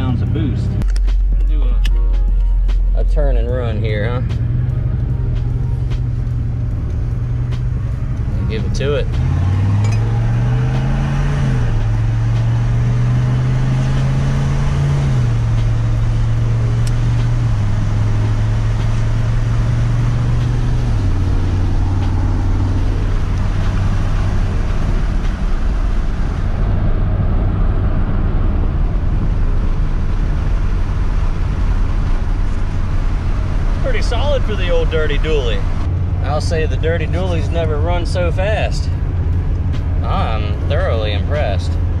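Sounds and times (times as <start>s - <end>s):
diesel truck engine accelerating: 0.0s - 42.0s
road noise: 0.0s - 42.0s.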